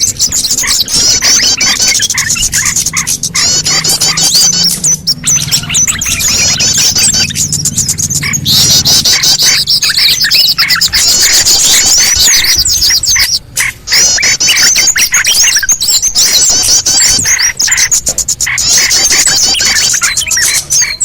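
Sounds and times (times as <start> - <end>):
many small songbirds chirping: 0.0 - 21.0.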